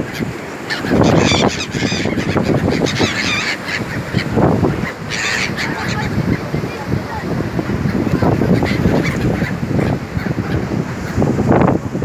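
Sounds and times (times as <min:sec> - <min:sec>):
seagulls calling: 0:00.0 - 0:11.7.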